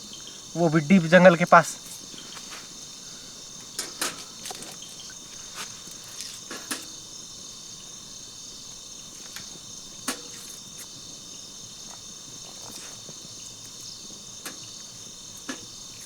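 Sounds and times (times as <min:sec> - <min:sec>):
crickets and insects chirring: 0:00.0 - 0:16.0.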